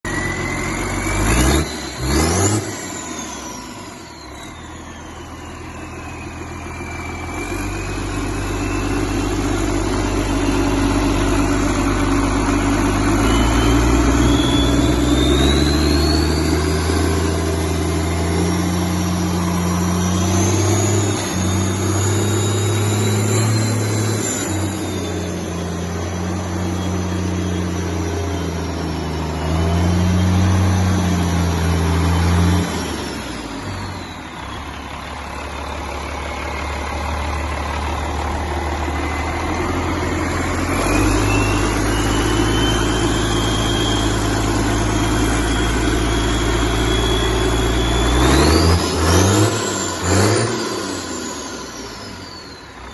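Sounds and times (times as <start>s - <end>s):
diesel engine revving: 0.0s - 52.9s
high engine whine: 0.0s - 52.9s.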